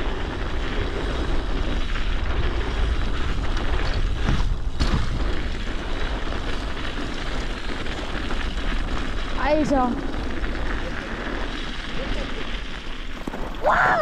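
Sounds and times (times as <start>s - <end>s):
bike tyres on snow: 0.0s - 14.0s
wind rumbling on microphone: 0.0s - 14.0s.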